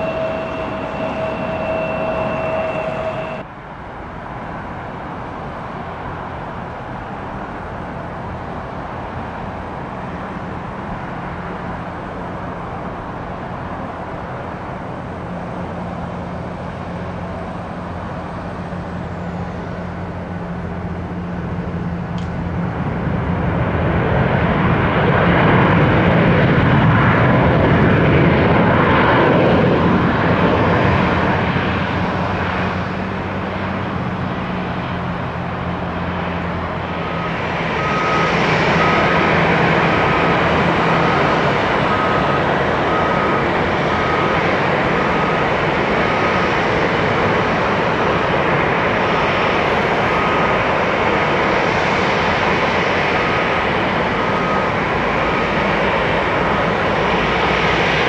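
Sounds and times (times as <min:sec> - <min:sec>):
faint high engine whine: 0:00.0 - 0:58.0
jet airliner engines: 0:00.0 - 0:58.0.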